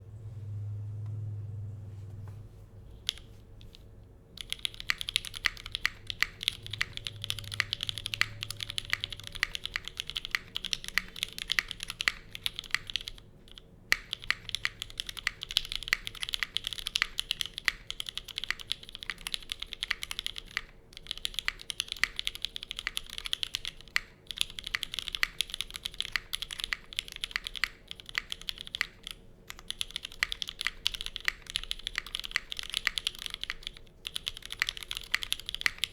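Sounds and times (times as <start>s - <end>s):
fast mechanical keyboard typing: 3.0s - 3.8s, 4.4s - 35.9s.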